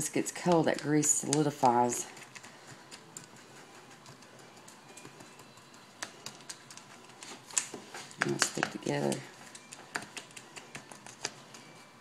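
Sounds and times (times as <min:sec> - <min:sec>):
spoon crunching and scraping feed: 0:00.4 - 0:12.0.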